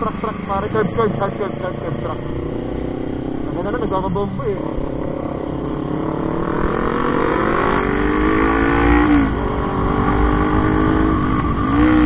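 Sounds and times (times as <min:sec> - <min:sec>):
low wind rumble: 0:00.0 - 0:12.0
motorcycle engine accelerating: 0:00.0 - 0:12.0.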